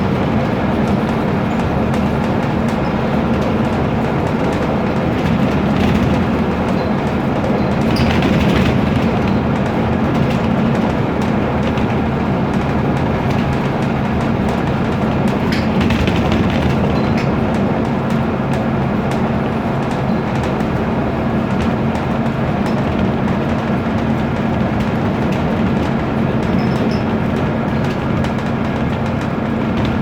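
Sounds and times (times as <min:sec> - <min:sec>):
bus diesel engine droning: 0:00.0 - 0:30.0
panels and windows rattling: 0:00.0 - 0:30.0.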